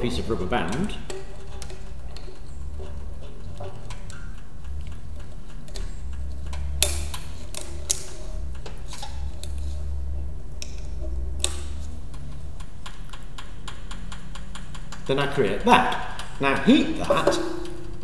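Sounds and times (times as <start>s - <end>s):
steady low hum: 0.0s - 18.0s
light clicks and taps: 0.2s - 18.0s.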